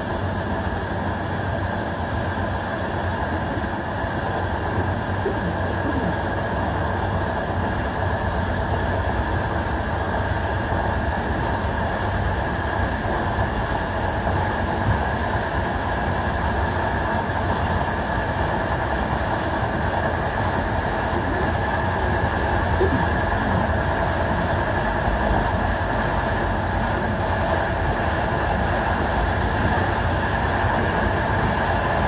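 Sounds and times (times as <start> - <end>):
train wheels rolling on rails: 0.0 - 32.0.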